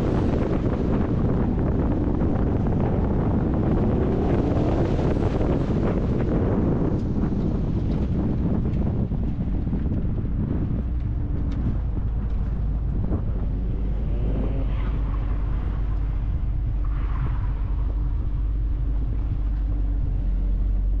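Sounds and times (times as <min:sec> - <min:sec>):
car engine droning: 0:00.0 - 0:21.0
wind noise on microphone: 0:00.0 - 0:21.0.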